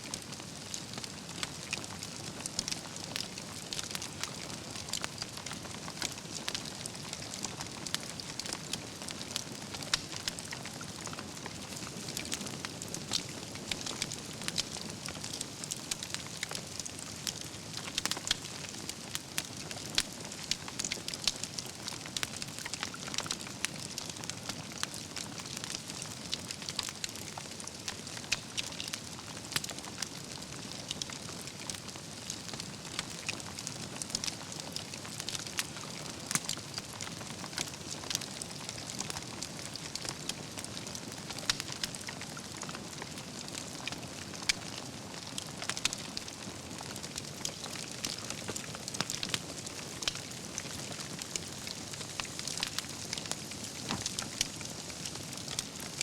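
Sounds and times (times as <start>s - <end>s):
fire crackling and popping: 0.0s - 56.0s
campfire flames hissing: 0.1s - 56.0s.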